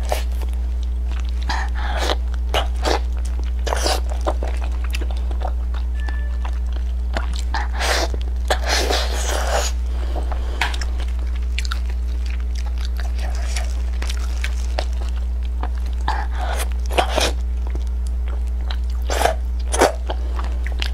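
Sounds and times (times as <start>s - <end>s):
close eating and chewing: 0.0s - 20.9s
low hum: 0.0s - 20.9s.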